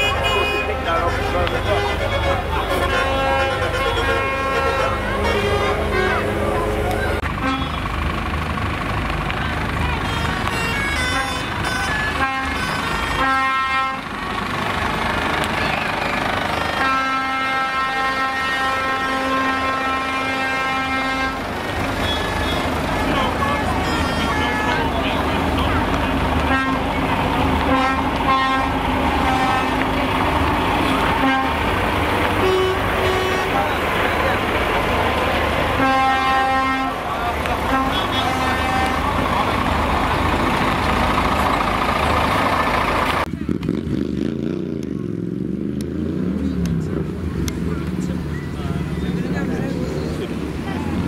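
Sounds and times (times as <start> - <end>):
truck horns sounding: 0.0 - 8.9, 9.5 - 44.6
diesel truck engines running: 0.0 - 51.0.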